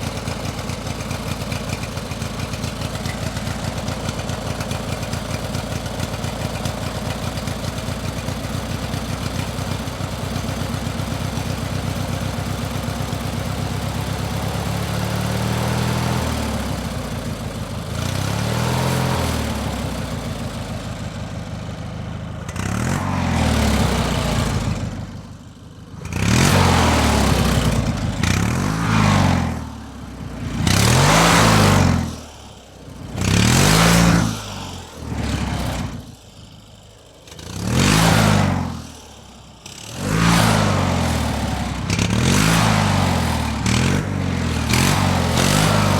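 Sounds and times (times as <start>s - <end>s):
engine idling and revving: 0.0s - 45.9s.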